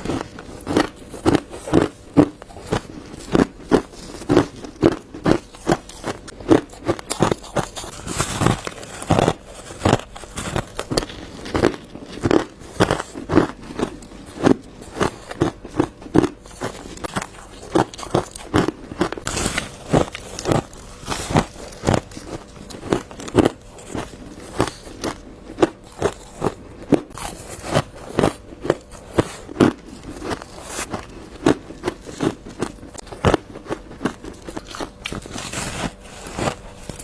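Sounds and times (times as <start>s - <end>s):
ice being crunched: 0.0s - 37.0s.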